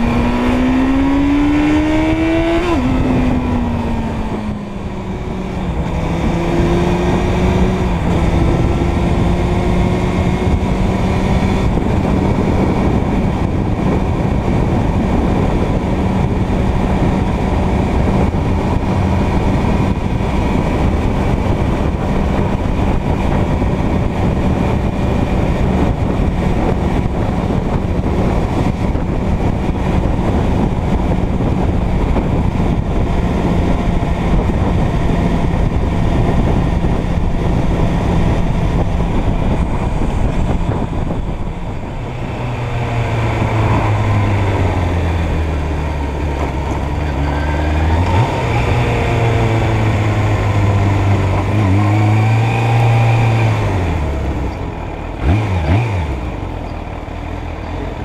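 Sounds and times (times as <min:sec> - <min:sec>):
motorcycle engine cruising: 0:00.0 - 0:58.0
wind and road rush: 0:00.0 - 0:58.0.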